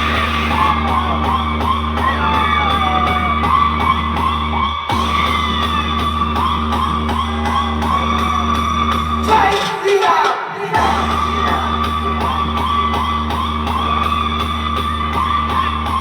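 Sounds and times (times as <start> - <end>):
loud dj music with heavy bass: 0.0 - 16.0.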